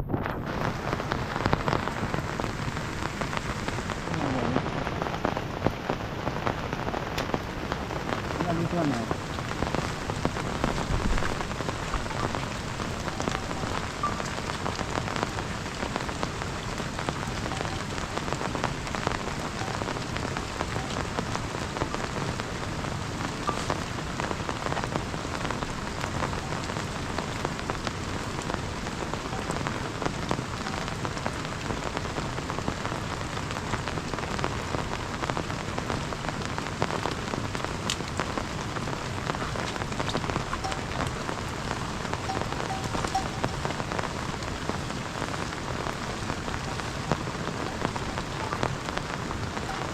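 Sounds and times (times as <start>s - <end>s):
heavy rain on a surface: 0.0s - 49.9s.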